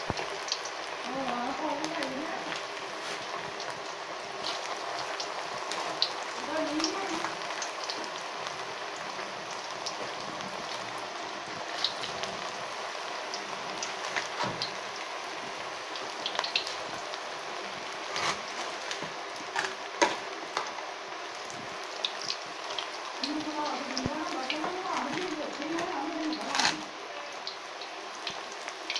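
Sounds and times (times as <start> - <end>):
food deep-frying in oil: 0.0 - 28.9.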